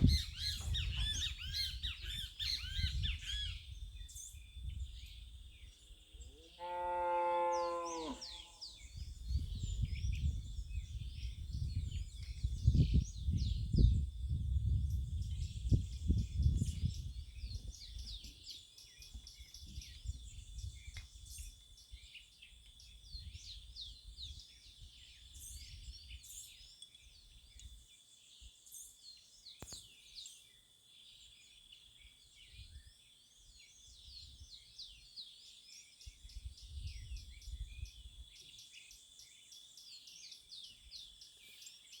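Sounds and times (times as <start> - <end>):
birds singing and chirping: 0.0 - 42.0.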